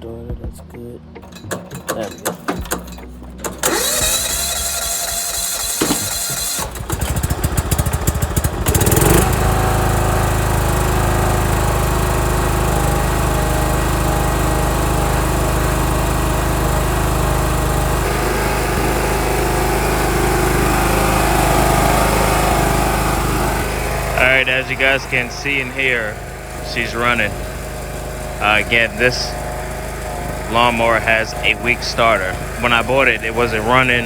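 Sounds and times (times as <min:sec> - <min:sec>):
lawn mower engine cranking and running: 0:01.2 - 0:34.0.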